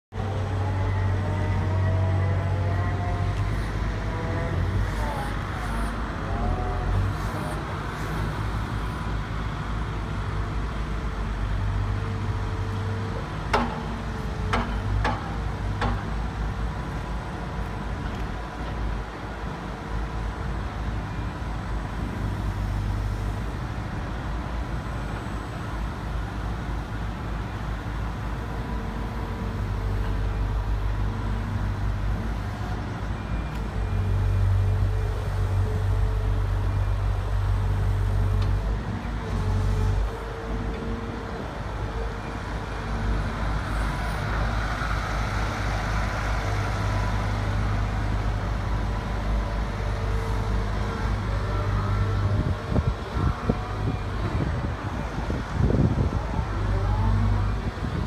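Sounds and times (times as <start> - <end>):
engine whine: 0.1 - 58.0
excavator diesel engine running: 0.1 - 58.0.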